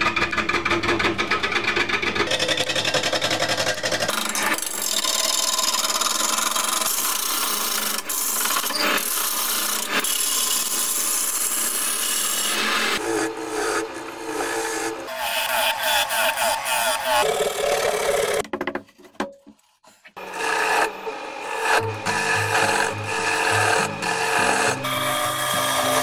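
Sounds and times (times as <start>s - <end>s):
wood lathe gouge scraping: 2.3s - 18.4s, 20.0s - 26.0s.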